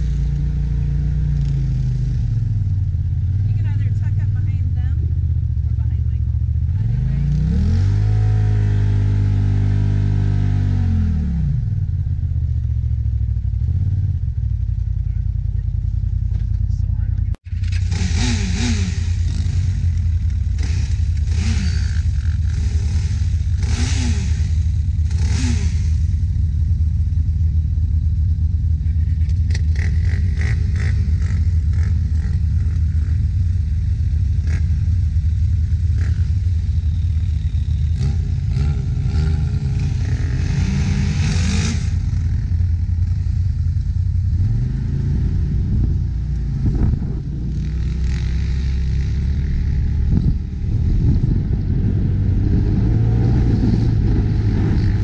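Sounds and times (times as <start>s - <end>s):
atv engine revving: 0.0s - 15.0s, 17.1s - 55.0s
utv engine droning: 0.0s - 55.0s.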